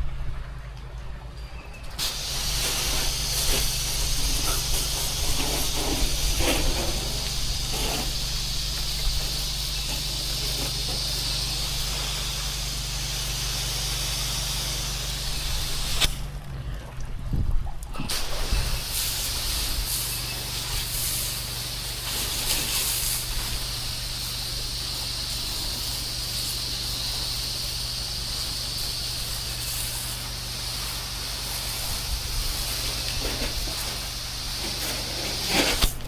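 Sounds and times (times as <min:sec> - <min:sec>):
washer engine droning: 0:00.0 - 0:36.0
pressure washer spray hissing: 0:02.0 - 0:16.2, 0:18.0 - 0:36.0.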